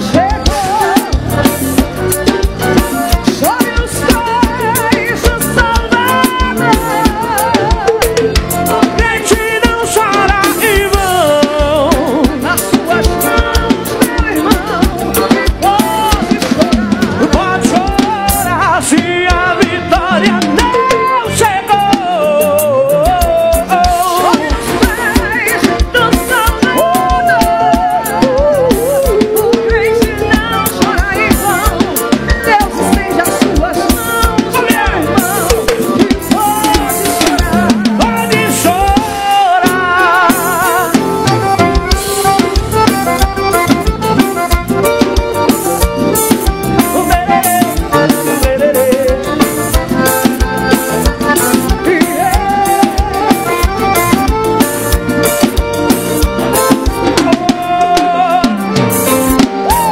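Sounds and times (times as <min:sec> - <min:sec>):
accordion melody: 0:00.0 - 0:59.9
drum kit beat: 0:00.0 - 0:59.9
keyboard melody: 0:00.0 - 0:59.9
live band playing: 0:00.0 - 0:59.9
people singing into microphones: 0:00.0 - 0:59.9.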